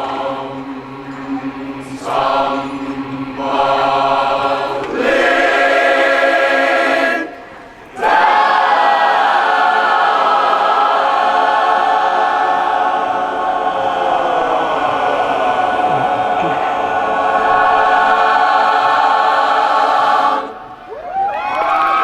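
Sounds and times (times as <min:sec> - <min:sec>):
mixed choir singing: 0:00.0 - 0:21.3.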